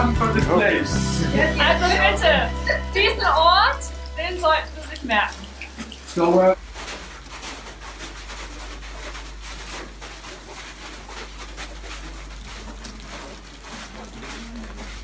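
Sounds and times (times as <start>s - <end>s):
footsteps crunching on snow: 0.0s - 15.0s.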